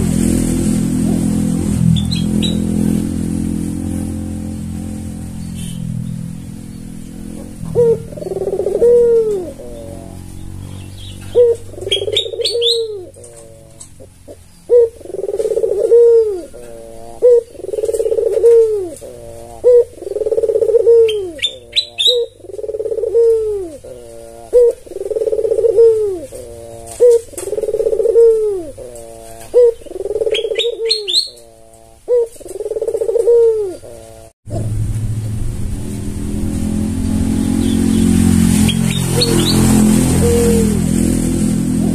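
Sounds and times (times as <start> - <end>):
low steady rumble: 0.0 - 27.4, 33.6 - 41.9
dove cooing: 1.0 - 34.7, 37.6 - 41.9.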